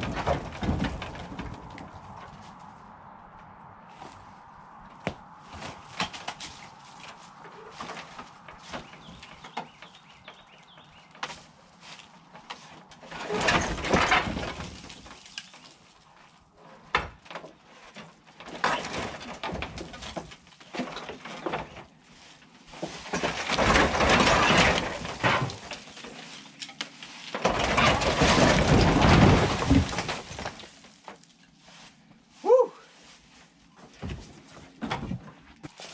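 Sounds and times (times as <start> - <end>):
tin roof and wood scraping: 0.0 - 32.4, 33.0 - 35.9.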